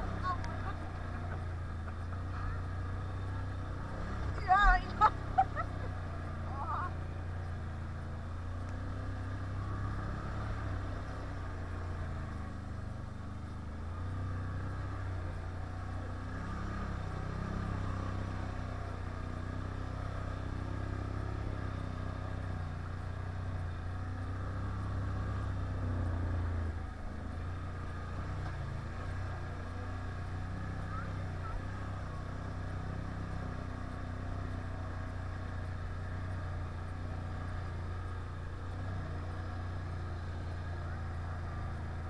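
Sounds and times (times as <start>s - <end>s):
quad engine running: 0.0s - 42.0s.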